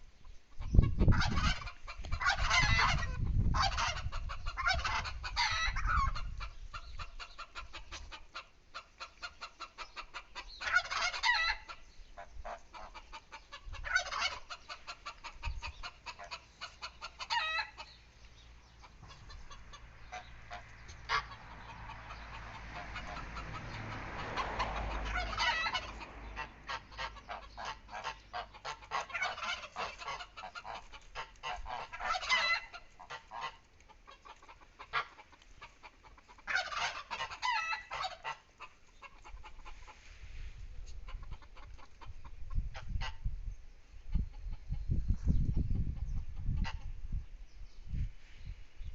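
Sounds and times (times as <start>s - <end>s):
chickens clucking: 0.2s - 43.3s, 44.0s - 47.2s.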